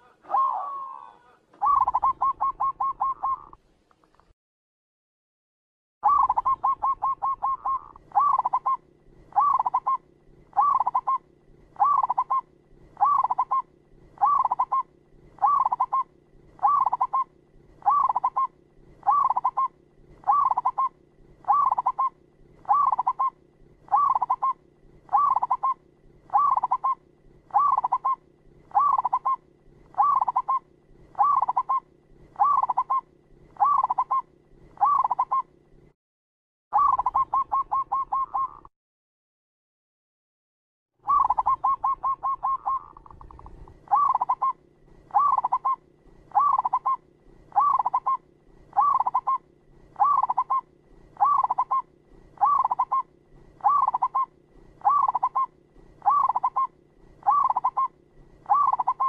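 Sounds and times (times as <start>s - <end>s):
dove cooing: 0.0s - 3.6s, 6.0s - 35.6s, 36.8s - 38.7s, 41.0s - 59.0s.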